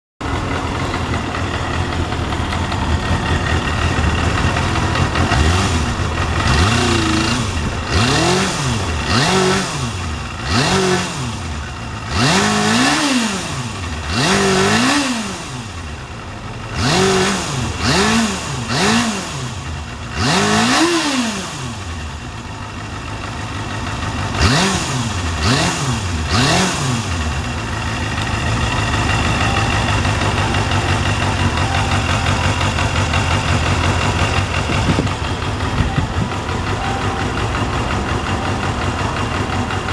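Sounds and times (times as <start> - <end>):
motorcycle engine idling: 0.2 - 39.9
motorcycle throttle blips: 0.2 - 39.9.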